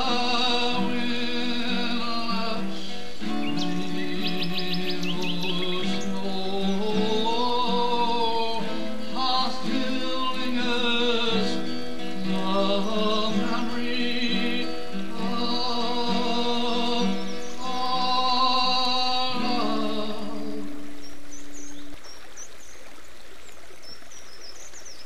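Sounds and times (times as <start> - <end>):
slow song music: 0.0 - 22.3.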